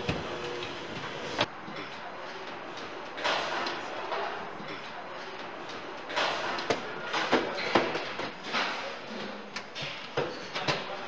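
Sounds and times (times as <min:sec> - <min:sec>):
factory background din: 0:00.0 - 0:11.0.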